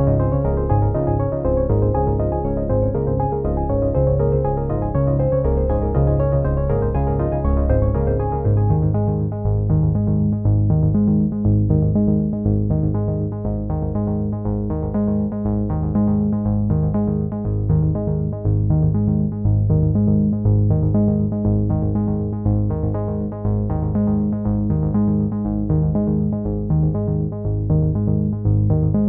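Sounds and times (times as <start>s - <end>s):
electronic music with bass: 0.0s - 29.0s.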